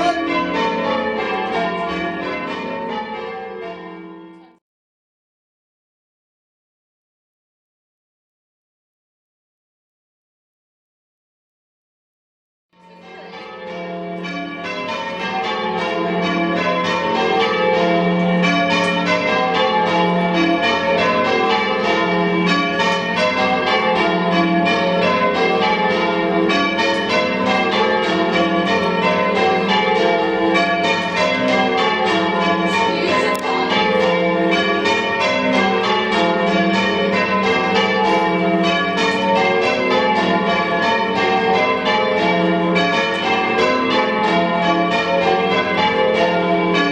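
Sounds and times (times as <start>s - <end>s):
church bells change ringing: 0.0s - 4.6s, 12.8s - 46.9s.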